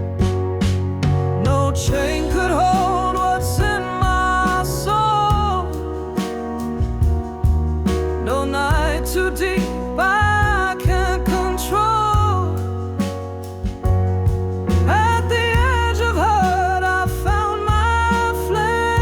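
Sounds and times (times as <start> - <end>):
bass line: 0.0 - 19.0
blues lead melody: 0.0 - 19.0
drum hits: 0.0 - 19.0.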